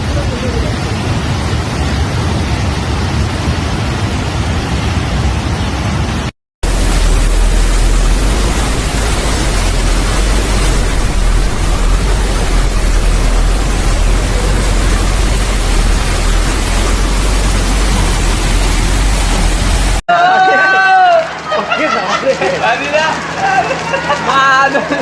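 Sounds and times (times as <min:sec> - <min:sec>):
heavy rain pouring: 0:00.0 - 0:20.0, 0:21.0 - 0:25.0.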